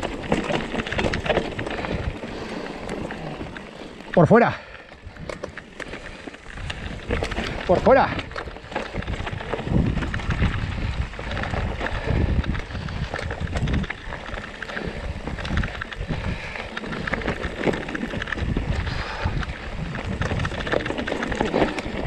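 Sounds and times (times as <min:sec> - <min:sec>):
bike rattling: 0:00.0 - 0:22.0
tyres crunching on trail: 0:00.0 - 0:22.0
wind buffeting microphone: 0:00.0 - 0:22.0.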